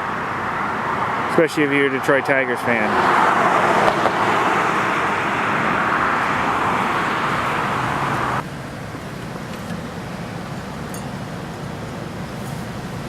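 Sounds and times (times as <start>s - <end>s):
cars going by: 0.0s - 13.0s.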